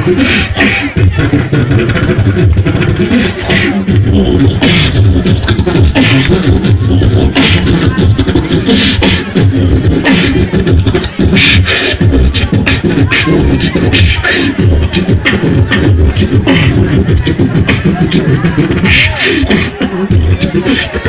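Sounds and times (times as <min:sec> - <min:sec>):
amplified beatboxing: 0:00.0 - 0:21.0.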